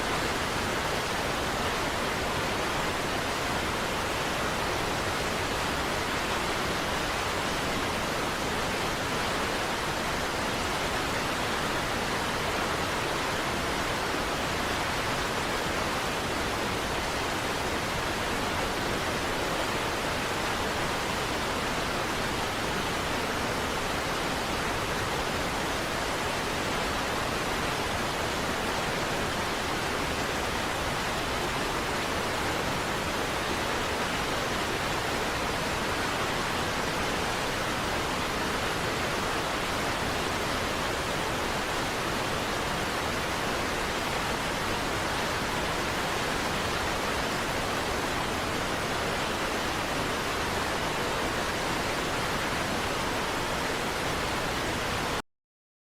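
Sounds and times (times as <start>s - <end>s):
waterfall roaring: 0.0s - 55.2s.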